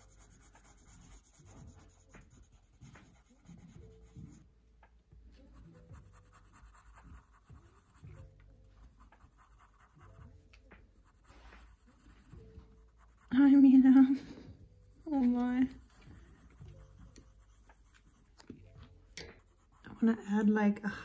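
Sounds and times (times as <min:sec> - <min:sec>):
colored pencil scratching on paper: 0:00.0 - 0:04.4, 0:05.4 - 0:20.6.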